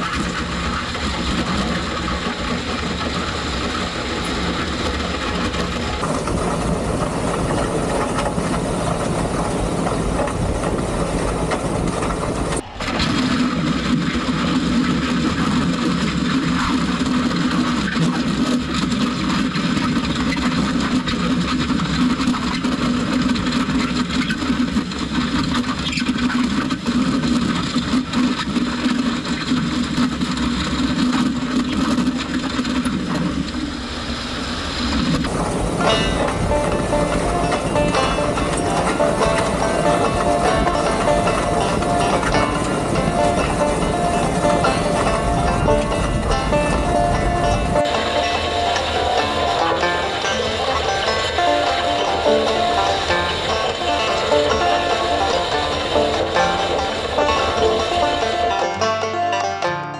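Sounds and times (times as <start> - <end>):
gravel grinding and rattling: 0.0 - 59.7
tractor engine under load: 0.0 - 59.9.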